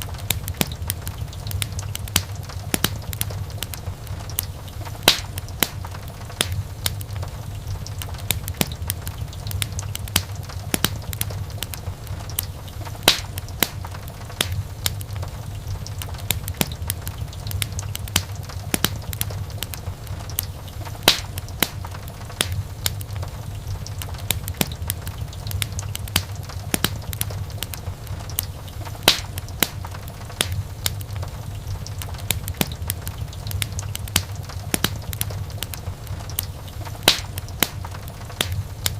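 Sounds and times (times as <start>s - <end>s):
fire popping: 0.0s - 38.9s
low steady rumble: 0.0s - 38.9s
wood fire crackling: 0.0s - 38.9s.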